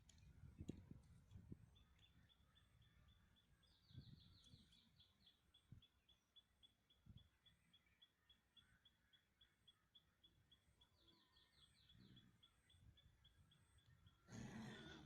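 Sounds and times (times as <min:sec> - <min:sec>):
bird chirping: 0:00.1 - 0:15.0.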